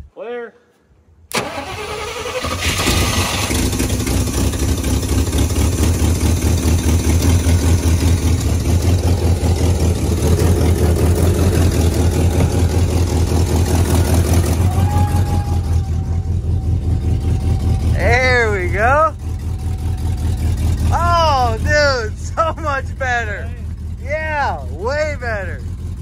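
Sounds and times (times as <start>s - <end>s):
truck engine idling: 1.3s - 26.0s.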